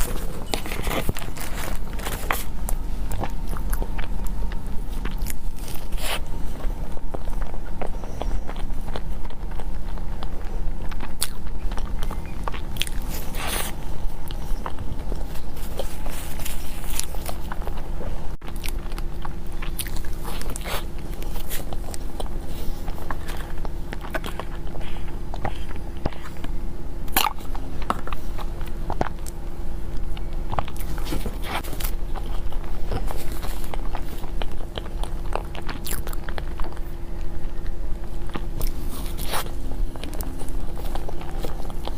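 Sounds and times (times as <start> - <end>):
low hum: 0.0 - 41.9
person chewing soft food: 0.0 - 41.9.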